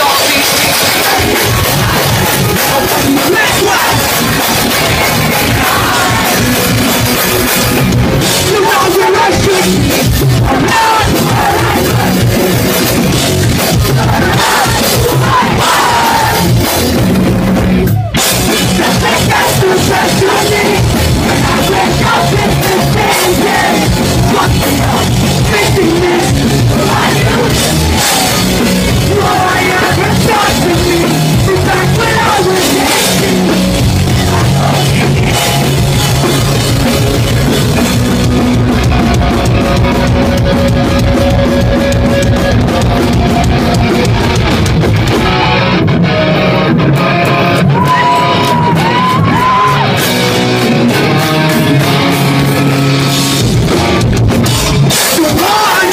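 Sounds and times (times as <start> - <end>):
pop-punk band playing live: 0.0 - 55.9.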